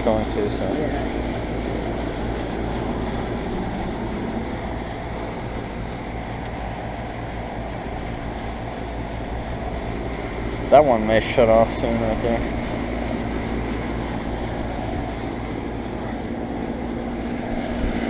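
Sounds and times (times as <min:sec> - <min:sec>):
compressor humming: 0:00.0 - 0:18.0
condenser fan rushing: 0:00.0 - 0:18.0.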